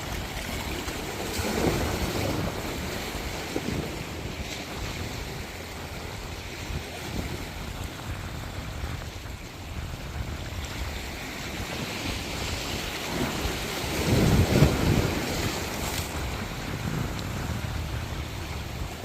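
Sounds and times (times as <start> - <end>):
waves washing onto shore: 0.0 - 19.0.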